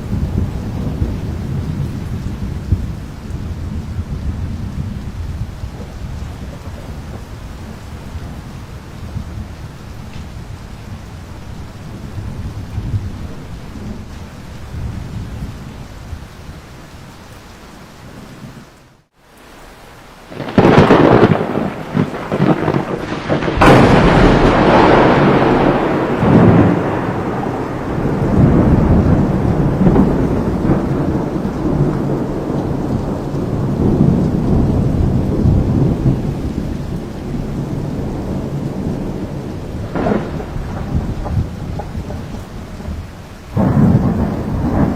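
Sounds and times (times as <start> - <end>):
thunder clap and rumble: 0.0 - 16.3, 20.3 - 44.9
steady rain: 0.0 - 44.9.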